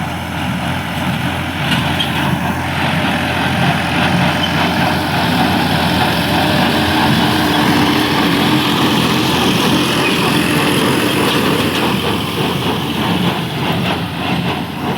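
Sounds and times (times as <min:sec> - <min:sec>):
baler machinery working: 0:00.0 - 0:14.9
tractor engine drone: 0:00.0 - 0:14.9.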